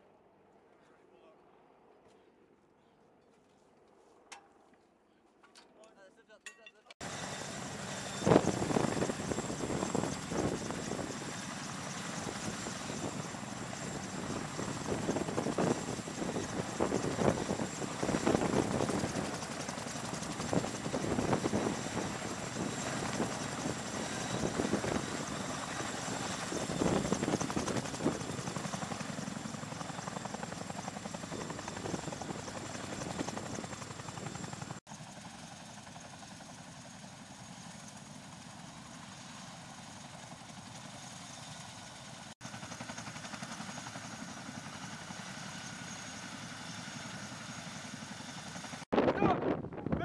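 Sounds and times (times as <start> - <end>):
helicopter engine whine: 7.0 - 50.0
helicopter rotors beating: 7.0 - 50.0.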